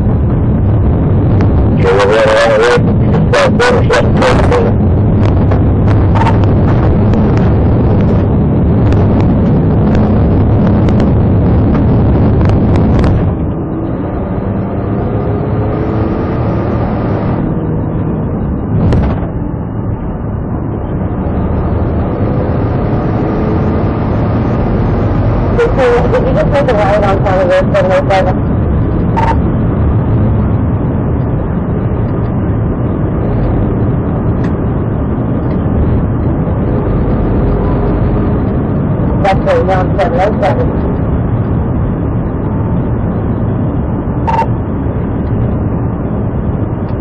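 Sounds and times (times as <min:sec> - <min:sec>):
car engine driving fast: 0:00.0 - 0:47.0.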